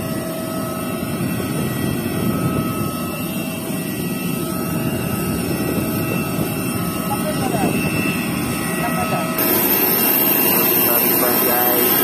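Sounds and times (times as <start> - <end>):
jet turbine rumble and whine: 0.0 - 12.0.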